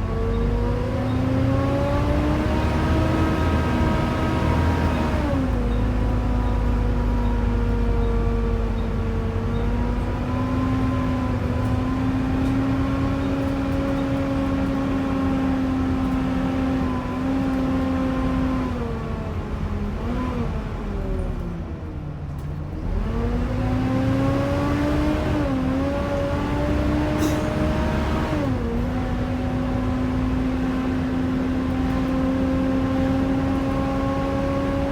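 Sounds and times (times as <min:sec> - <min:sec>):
bus engine whine: 0:00.0 - 0:34.9.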